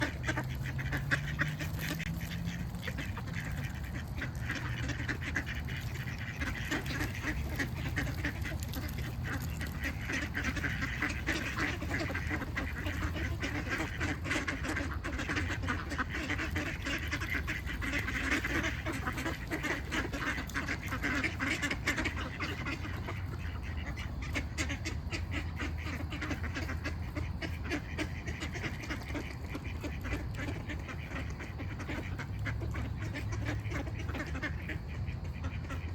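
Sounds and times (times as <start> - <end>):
ducks quacking: 0.0 - 35.9
low steady rumble: 0.0 - 35.9.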